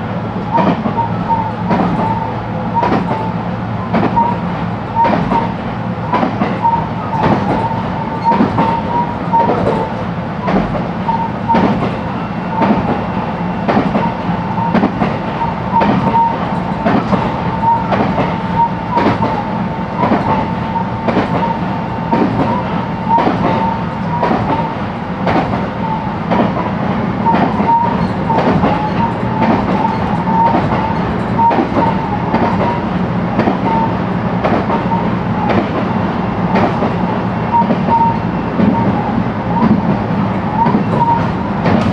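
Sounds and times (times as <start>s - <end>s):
train low rumble: 0.0s - 41.9s
train wheels clacking over joints: 0.5s - 41.9s.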